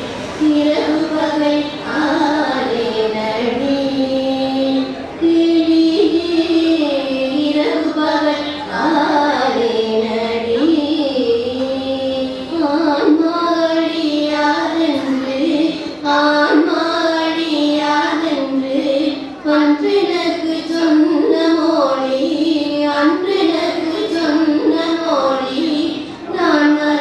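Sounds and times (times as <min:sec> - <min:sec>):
women singing a hymn: 0:00.0 - 0:27.0.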